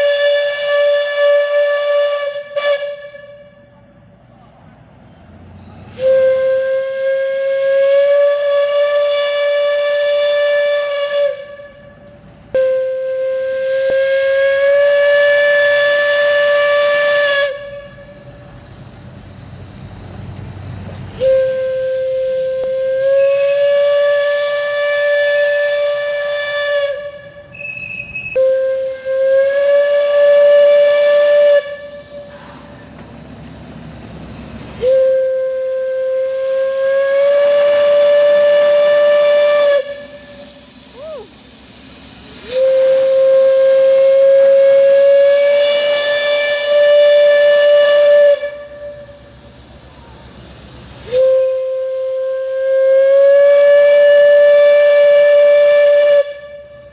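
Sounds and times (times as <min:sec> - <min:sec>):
steam locomotive whistle: 0:00.0 - 0:04.0, 0:05.8 - 0:18.5, 0:21.0 - 0:33.4, 0:34.2 - 0:56.9
steam hissing: 0:05.2 - 0:56.9.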